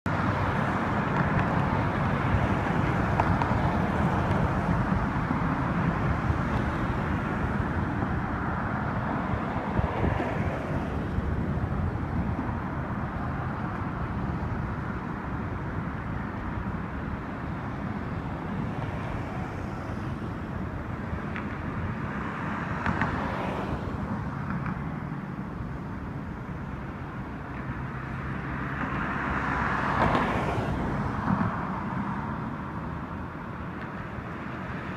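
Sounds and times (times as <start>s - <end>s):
road traffic hum: 0.0s - 34.9s
vehicles passing: 0.0s - 34.9s.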